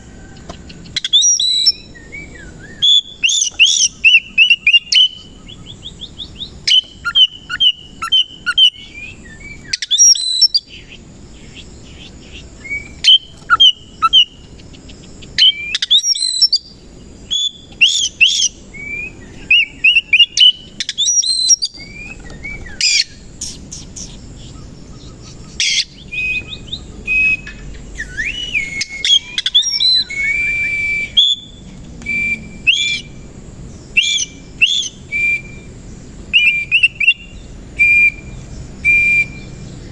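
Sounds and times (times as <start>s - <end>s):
bird singing whistles and chirps: 0.1s - 39.9s.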